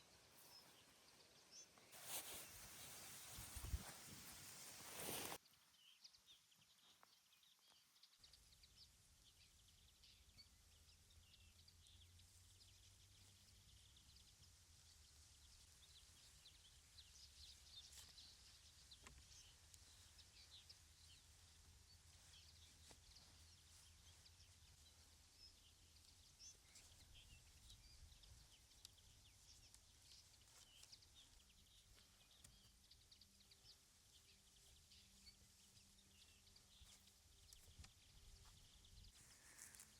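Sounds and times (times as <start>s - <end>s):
small bird chirps: 0.0s - 39.9s.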